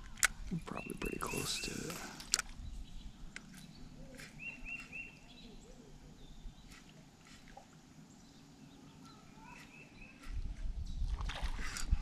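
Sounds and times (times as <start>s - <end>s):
bird chirping: 0.4s - 7.0s, 7.7s - 11.1s.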